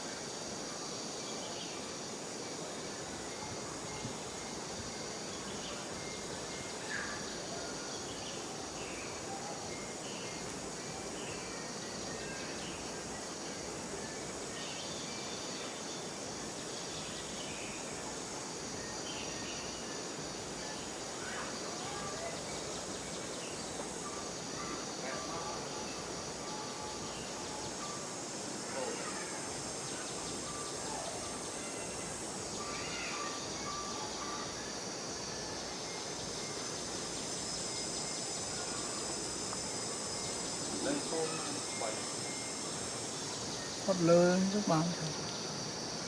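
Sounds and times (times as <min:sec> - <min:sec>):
background hiss: 0:00.0 - 0:46.0
high-pitched insect drone: 0:00.0 - 0:46.0.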